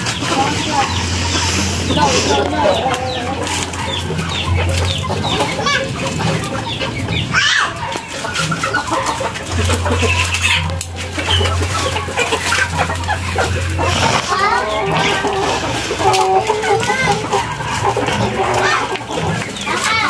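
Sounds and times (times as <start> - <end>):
chicken squawk: 0.0 - 20.0
chickens clucking: 0.0 - 20.0.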